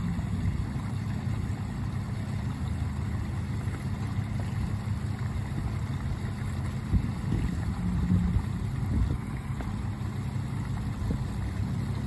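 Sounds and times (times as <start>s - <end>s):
low rumble and hum: 0.0s - 12.0s
waterfall rushing into pond: 0.0s - 12.0s.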